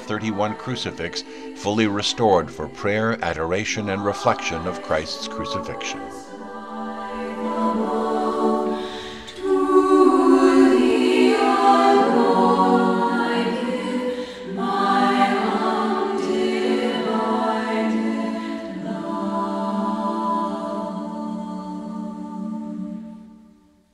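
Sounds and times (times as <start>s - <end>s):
choir singing a slow hymn: 0.0s - 23.7s.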